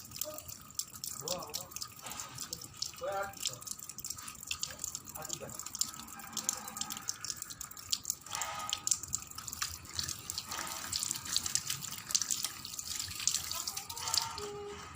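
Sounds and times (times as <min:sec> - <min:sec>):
tap water running into sink: 0:00.0 - 0:14.9.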